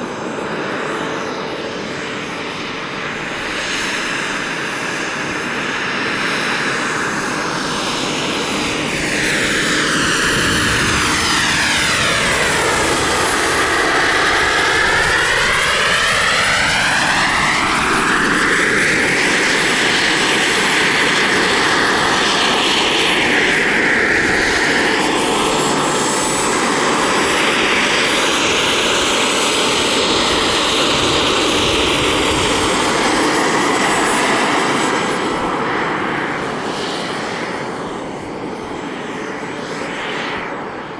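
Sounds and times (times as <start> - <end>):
model aircraft engine flying: 0.0 - 40.9.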